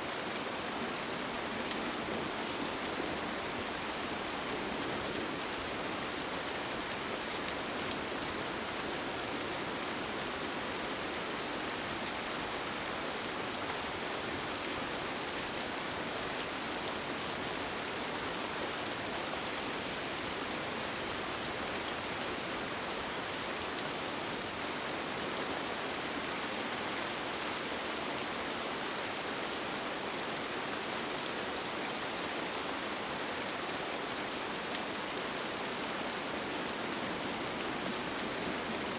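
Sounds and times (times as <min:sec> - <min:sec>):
rain falling on a tent: 0:00.0 - 0:38.9.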